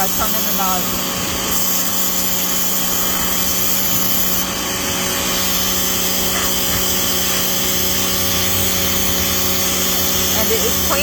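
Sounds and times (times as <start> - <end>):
pressure washer motor humming: 0.0 - 11.0
water spray hissing: 0.0 - 11.0.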